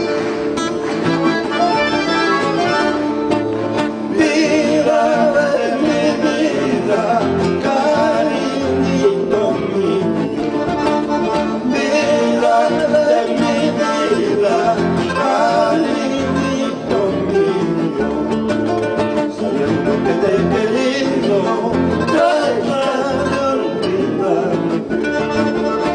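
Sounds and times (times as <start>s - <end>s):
acoustic guitars: 0.0s - 25.9s
man singing: 3.8s - 25.9s.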